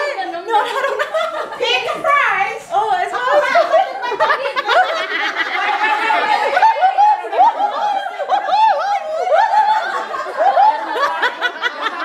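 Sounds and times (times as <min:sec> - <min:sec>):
women laughing and talking: 0:00.0 - 0:12.0.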